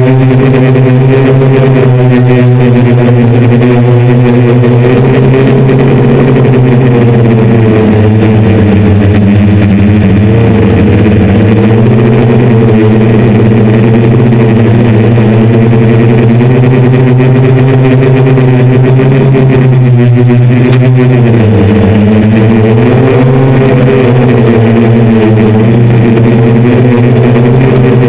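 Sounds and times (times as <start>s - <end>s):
drone motors droning: 0.0s - 28.0s
wind noise on microphone: 0.0s - 28.0s.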